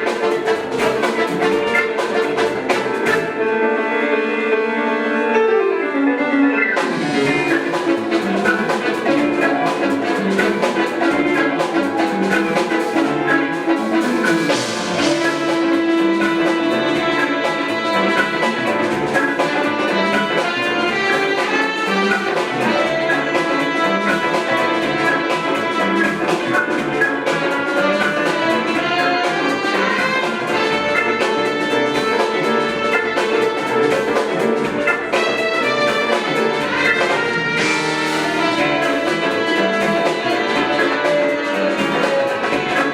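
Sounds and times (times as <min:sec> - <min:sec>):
drum kit beat: 0:00.0 - 0:03.4, 0:06.8 - 0:42.9
jazz-fusion band playing: 0:00.0 - 0:42.9.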